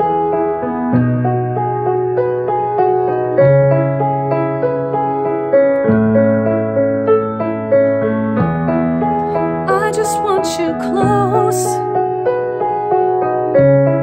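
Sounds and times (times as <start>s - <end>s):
grand piano playing chords: 0.0s - 14.0s.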